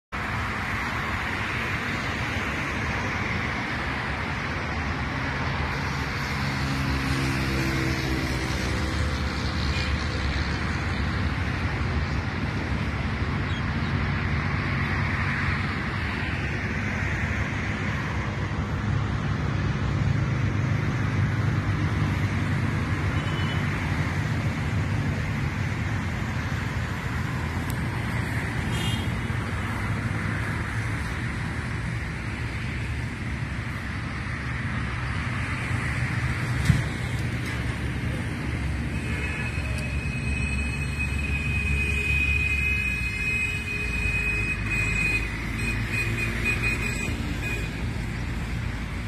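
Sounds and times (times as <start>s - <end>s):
road traffic noise: 0.1s - 49.0s.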